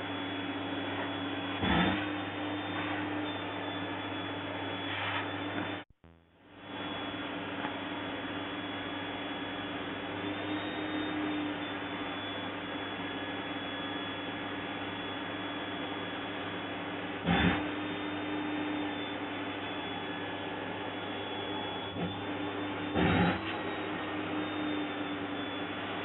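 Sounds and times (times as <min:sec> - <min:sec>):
vacuum cleaner motor running: 0:00.0 - 0:26.0.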